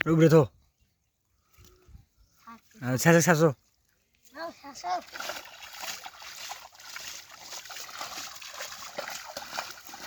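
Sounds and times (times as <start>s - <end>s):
water trickling and splashing: 0.6s - 10.0s.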